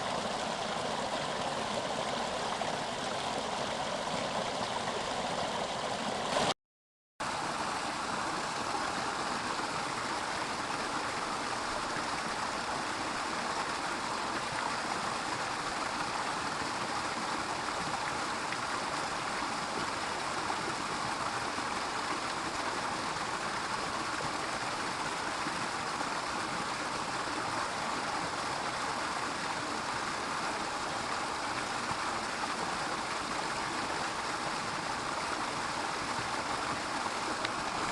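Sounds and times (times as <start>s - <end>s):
stream rushing over rocks: 0.0s - 6.6s, 7.2s - 37.9s.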